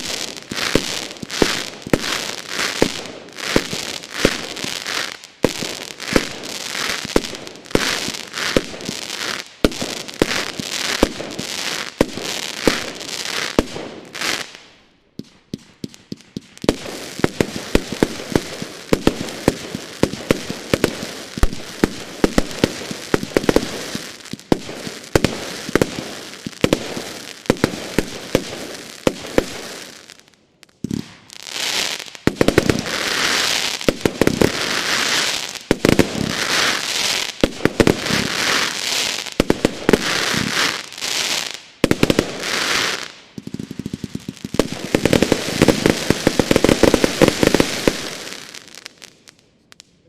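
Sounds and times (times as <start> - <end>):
fireworks launching and bursting: 0.0 - 49.8
fireworks crackling hiss: 0.0 - 50.0.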